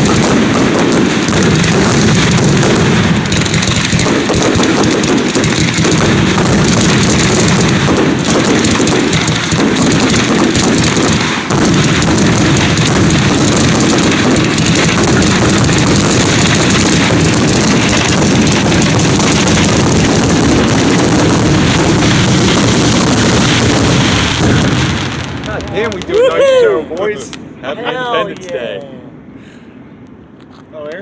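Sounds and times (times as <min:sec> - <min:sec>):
fireworks launching and bursting: 0:00.0 - 0:27.6.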